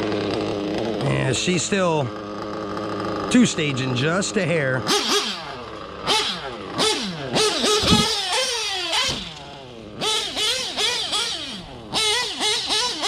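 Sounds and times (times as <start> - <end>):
nitro engine revving: 0.0 - 13.0.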